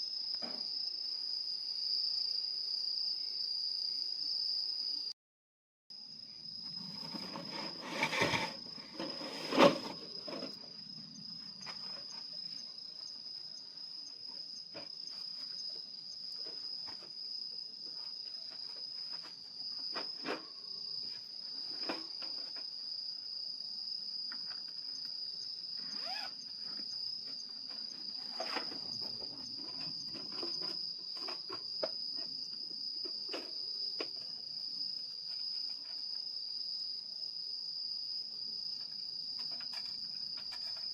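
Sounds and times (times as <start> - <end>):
night insects trilling: 0.0 - 5.1, 6.0 - 40.9.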